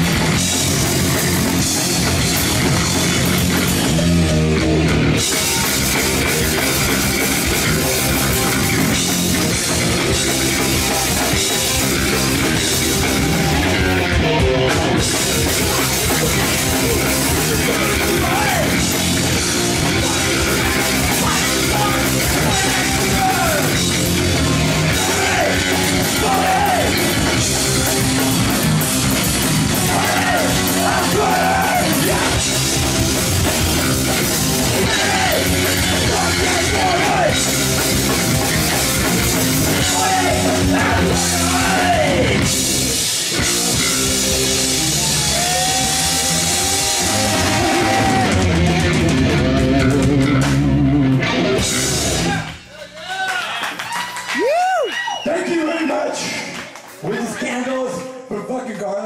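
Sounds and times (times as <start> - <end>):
electric guitar: 0.0 - 52.6
drum kit: 0.0 - 52.7
bass guitar: 0.0 - 52.8.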